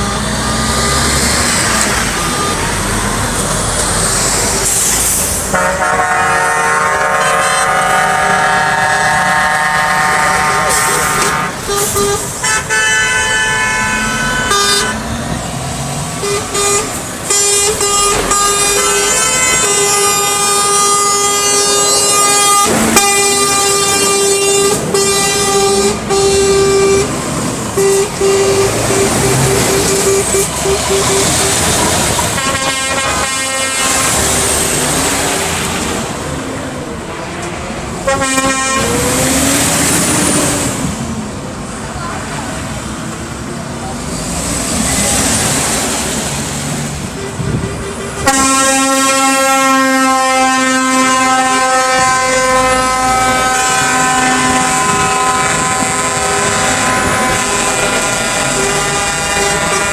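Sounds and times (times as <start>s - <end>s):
truck air horns honking: 0.0s - 36.3s, 37.2s - 41.0s, 44.9s - 59.9s.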